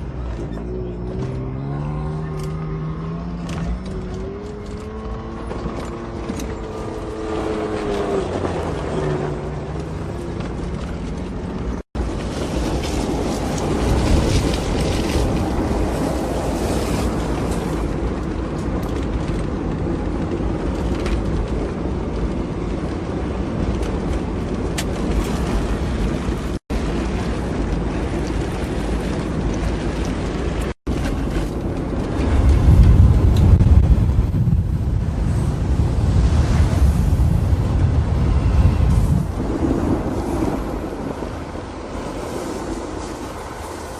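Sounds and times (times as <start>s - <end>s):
off-road vehicle engine running: 0.0s - 40.2s
wind noise on microphone: 3.7s - 43.9s.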